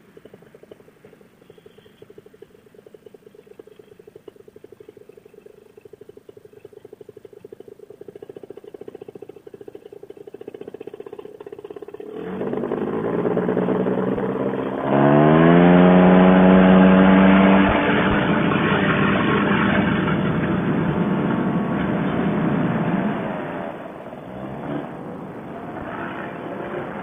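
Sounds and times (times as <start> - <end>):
paramotor engine and propeller revving: 0.0 - 27.0.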